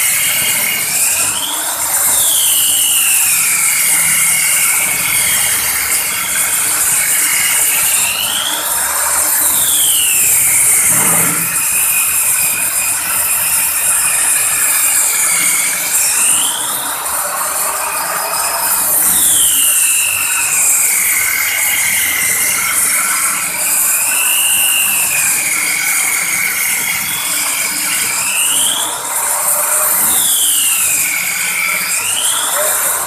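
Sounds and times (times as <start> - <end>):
wood-cutting machine whining: 0.0 - 33.0.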